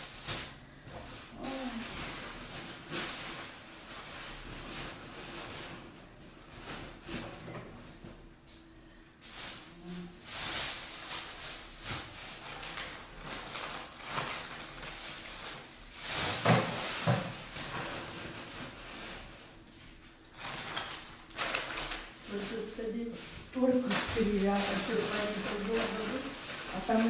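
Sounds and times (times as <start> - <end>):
plastic bags rustling: 0.0 - 27.0.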